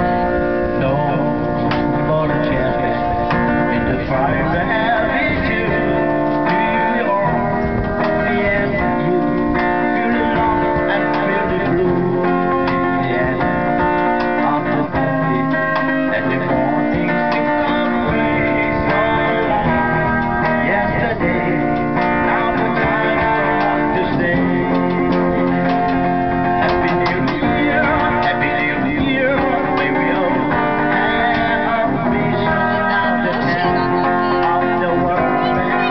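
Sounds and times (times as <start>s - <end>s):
guitar strummed and plucked: 0.0s - 35.9s.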